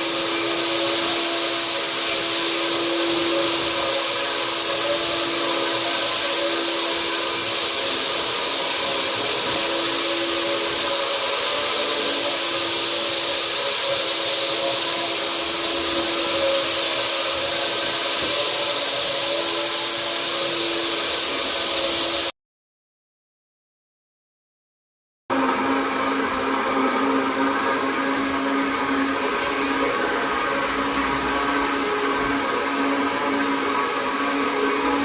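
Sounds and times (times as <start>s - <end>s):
floor sanding machine running: 0.0s - 22.3s, 25.3s - 35.0s.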